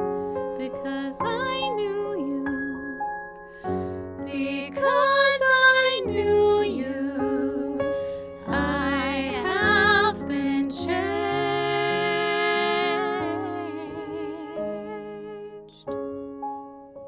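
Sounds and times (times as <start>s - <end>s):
sustained piano chords: 0.0s - 17.0s
women singing with vibrato: 0.6s - 3.0s, 4.3s - 15.6s.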